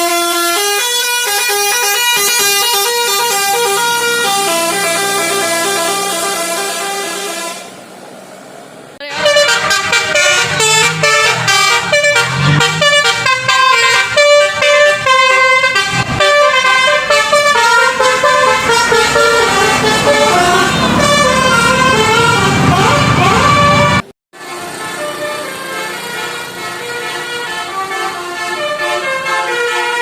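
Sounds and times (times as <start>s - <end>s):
musical bus horn melody: 0.0s - 7.9s, 9.0s - 30.0s.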